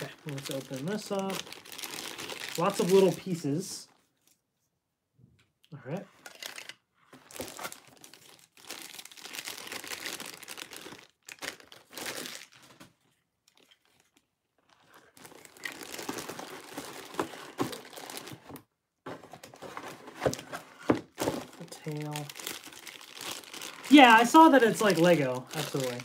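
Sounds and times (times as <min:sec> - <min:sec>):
plastic packaging crinkling: 0:00.0 - 0:03.4, 0:06.2 - 0:18.6, 0:19.4 - 0:26.0.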